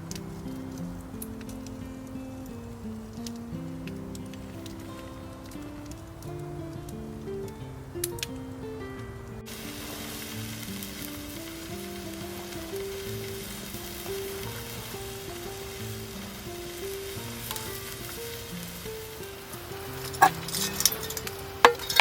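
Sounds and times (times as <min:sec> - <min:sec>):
background music: 0:00.0 - 0:22.0
steak sizzling over fire: 0:00.0 - 0:22.0.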